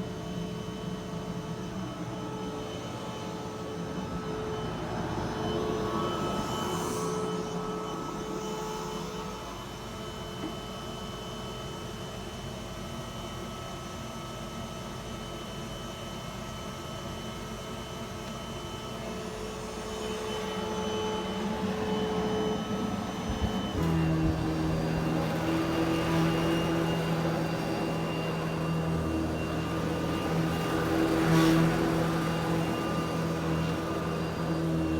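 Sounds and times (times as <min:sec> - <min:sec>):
vacuum cleaner running: 0:00.0 - 0:12.7, 0:16.3 - 0:34.9.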